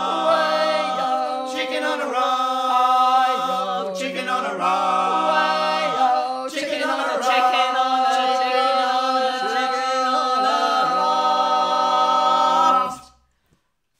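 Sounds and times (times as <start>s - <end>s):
group singing in harmony: 0.0s - 13.2s.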